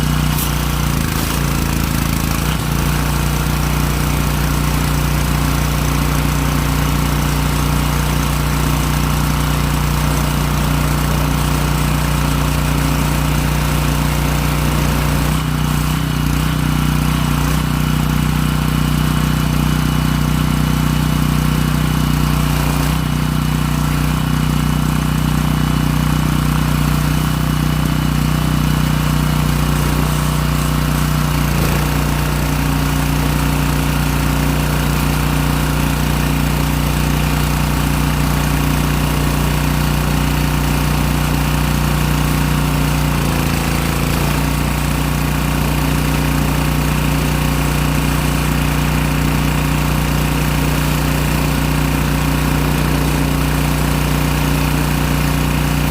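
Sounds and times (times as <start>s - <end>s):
pressure washer engine running: 0.0s - 55.9s.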